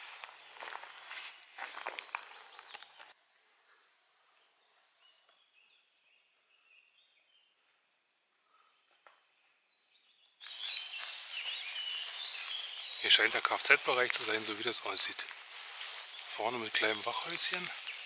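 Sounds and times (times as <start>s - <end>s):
birds singing outdoors: 0.0s - 18.0s
faint bird chirps: 0.2s - 18.0s.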